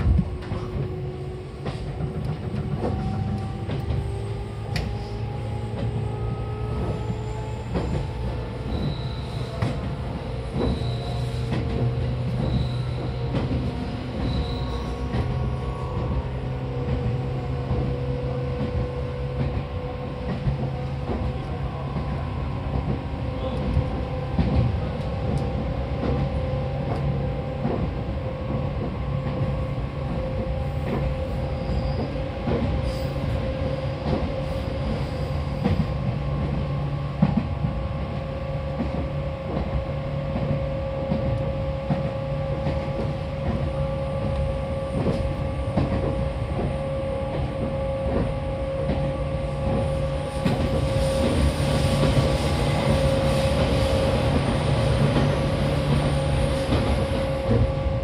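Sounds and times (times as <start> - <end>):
train motor hum: 0.0 - 58.0
train wheels rumbling: 0.0 - 58.0.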